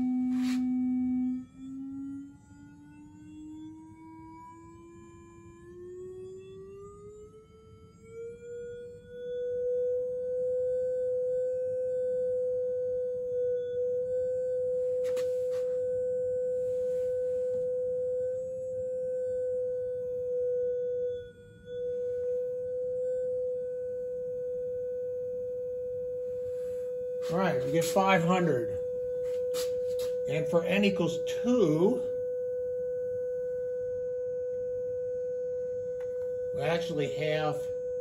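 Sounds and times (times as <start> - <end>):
steady electronic tone: 0.0 - 6.4, 8.1 - 38.0.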